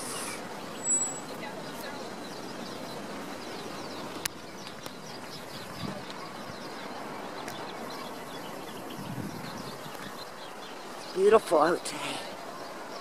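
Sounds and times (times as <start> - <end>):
background hiss: 0.0 - 13.0
small birds chirping: 0.0 - 13.0.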